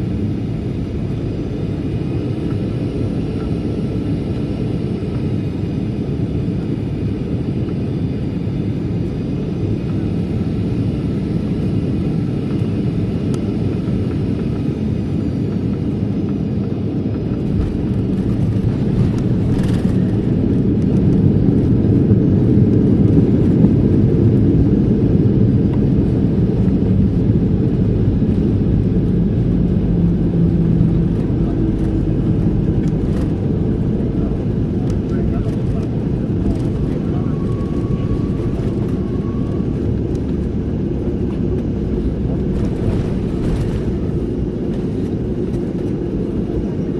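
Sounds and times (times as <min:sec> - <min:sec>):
airplane engines rumbling in cabin: 0:00.0 - 0:46.9.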